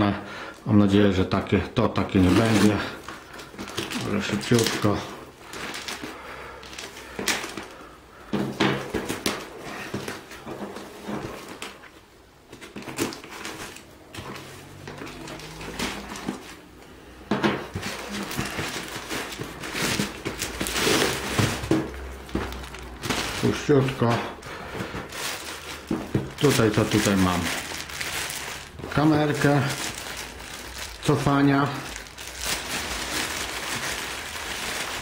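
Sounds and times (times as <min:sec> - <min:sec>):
plastic wrap crinkling and tearing: 0:00.9 - 0:08.0, 0:08.8 - 0:16.8, 0:17.6 - 0:35.0.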